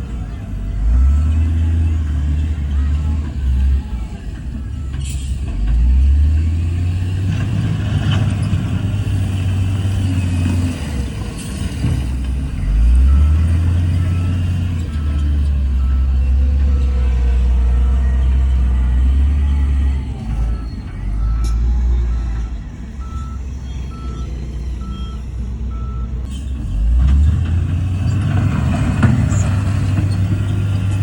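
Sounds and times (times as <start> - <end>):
heavy diesel engine under load: 0.0 - 31.0.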